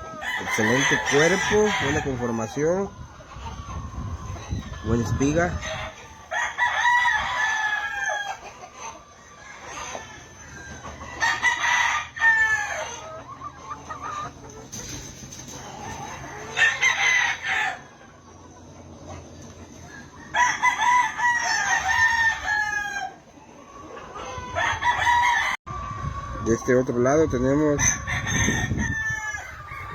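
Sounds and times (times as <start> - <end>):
hens clucking: 0.0 - 29.9
roosters crowing: 0.0 - 29.9.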